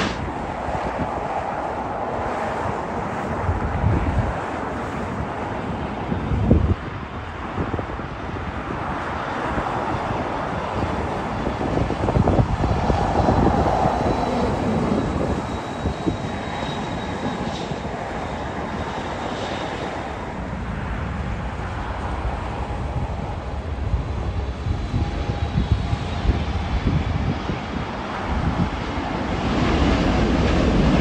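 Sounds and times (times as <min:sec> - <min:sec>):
jet engine rushing with high whine: 0:00.0 - 0:31.0
wind buffeting microphone: 0:00.0 - 0:31.0.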